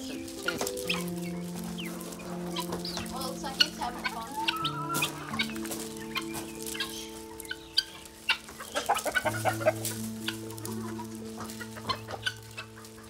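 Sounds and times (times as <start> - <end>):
chickens and guinea fowl clucking: 0.0 - 13.0
soft background music chords: 0.0 - 13.0.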